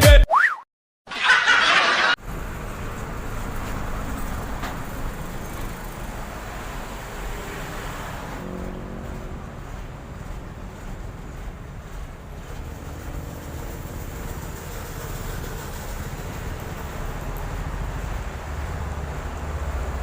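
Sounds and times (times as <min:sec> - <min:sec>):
faint engine hum: 0:02.2 - 0:20.0
road traffic rumble and hiss: 0:02.2 - 0:20.0.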